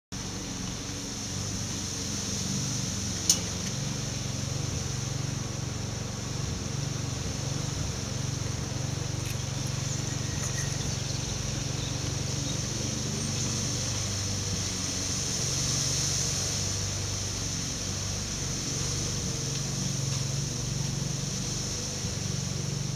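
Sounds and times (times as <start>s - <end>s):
high-pitched hiss: 0.2s - 22.9s
low hum: 0.2s - 22.9s.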